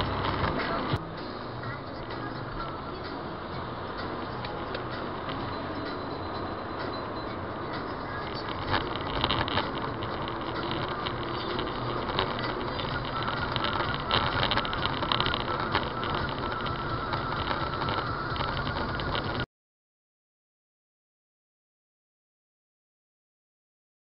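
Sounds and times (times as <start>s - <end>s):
car engine and tyre noise: 0.0s - 19.5s.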